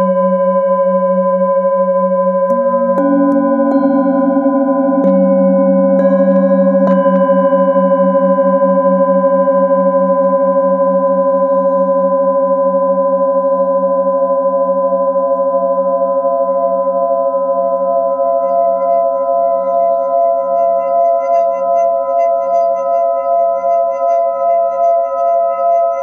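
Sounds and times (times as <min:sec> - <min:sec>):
singing bowl rim tone pulsing: 0:00.0 - 0:26.0
singing bowls ringing: 0:02.3 - 0:26.0.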